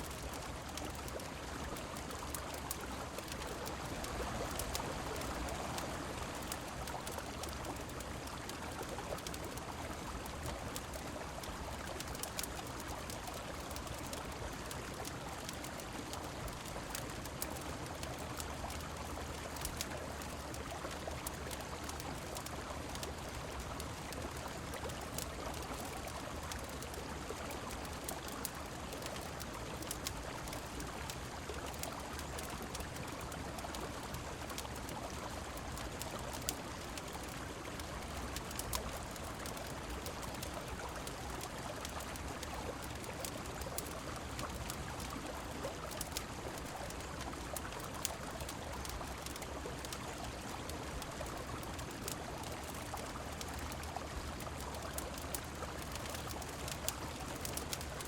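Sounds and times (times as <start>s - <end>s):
falling rain: 0.0s - 58.0s
small sharp clicks and crackles: 0.0s - 58.0s.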